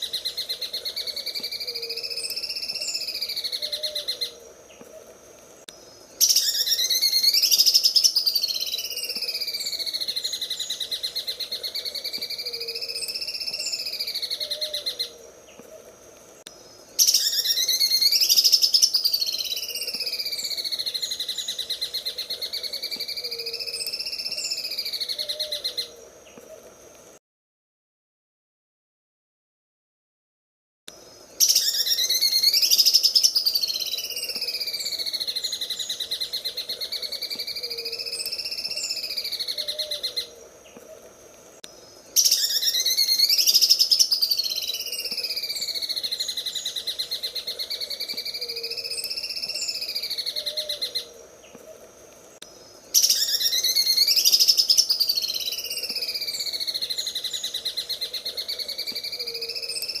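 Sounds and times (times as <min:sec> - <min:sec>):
bird singing buzzing trill: 0:00.0 - 0:04.8, 0:05.7 - 0:15.7, 0:16.4 - 0:26.5, 0:31.0 - 0:40.8, 0:41.7 - 0:51.6, 0:52.4 - 1:00.0.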